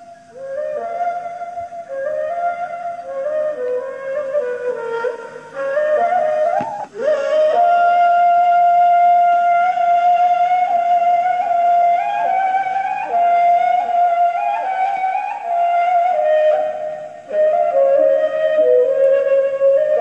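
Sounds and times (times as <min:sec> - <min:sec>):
cane flute slow melody: 0:00.0 - 0:20.0.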